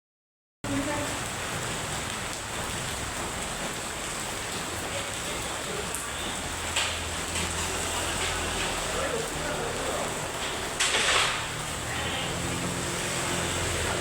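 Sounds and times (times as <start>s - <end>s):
heavy rain falling: 0.6s - 14.0s.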